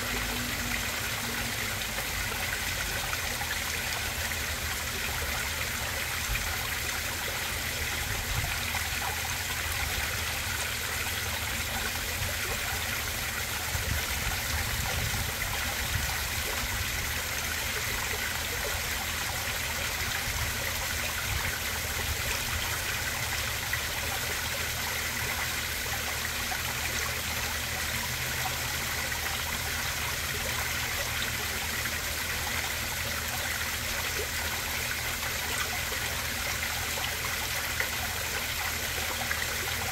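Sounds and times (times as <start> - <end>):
small waterfall splashing into pond: 0.0 - 39.9.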